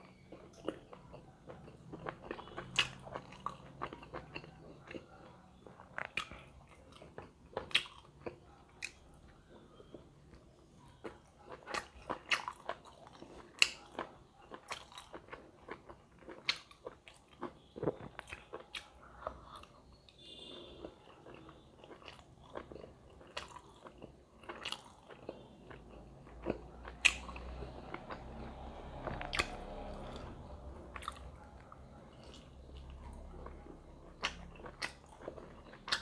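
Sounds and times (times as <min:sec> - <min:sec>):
person chewing: 0:00.1 - 0:36.0.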